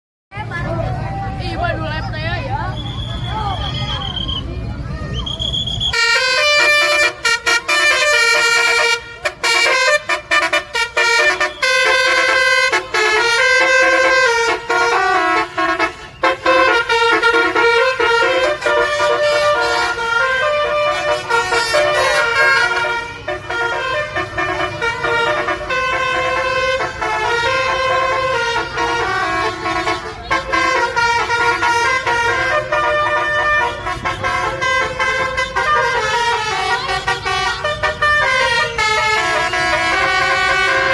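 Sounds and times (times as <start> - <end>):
multi-tone bus horn melody: 5.8 - 40.9.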